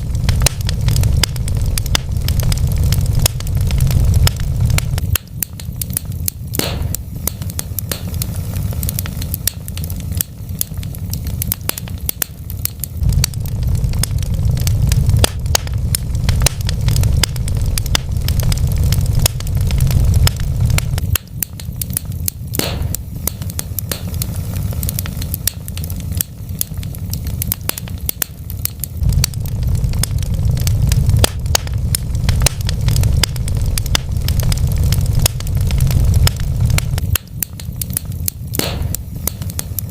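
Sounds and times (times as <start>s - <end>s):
low rumble of burning logs: 0.0s - 39.9s
wood fire crackling and popping: 0.0s - 39.9s.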